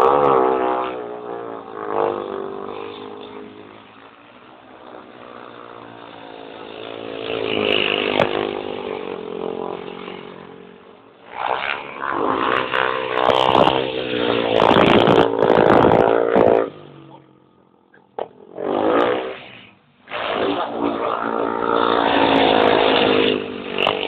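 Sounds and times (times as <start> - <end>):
racing motorcycle engines revving: 0.0 - 24.0.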